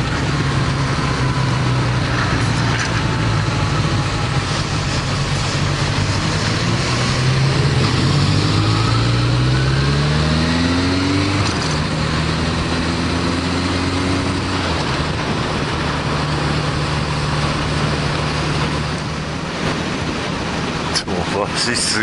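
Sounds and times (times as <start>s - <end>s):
wind noise on microphone: 0.0s - 9.8s, 11.2s - 21.1s
motorcycle engine accelerating: 0.0s - 20.8s.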